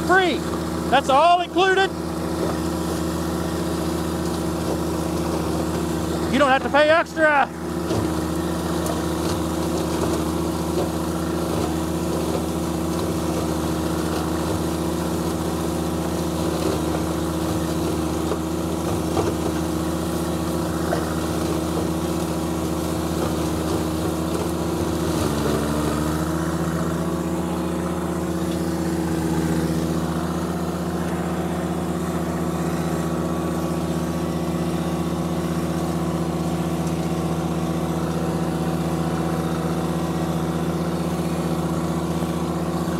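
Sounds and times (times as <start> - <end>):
mower cutting dry corn stalks: 0.0 - 42.9
tractor diesel engine running: 0.0 - 42.9.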